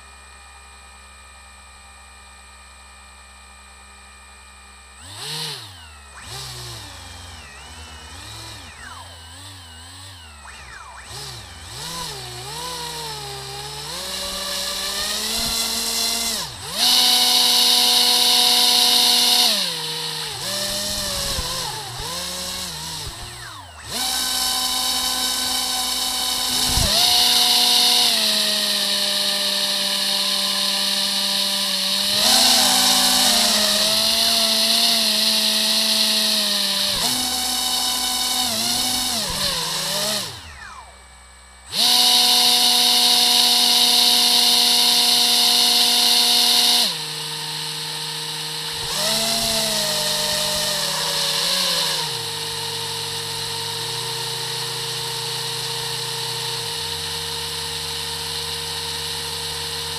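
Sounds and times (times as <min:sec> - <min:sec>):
high-pitched electric motor whine: 0:00.0 - 0:59.9.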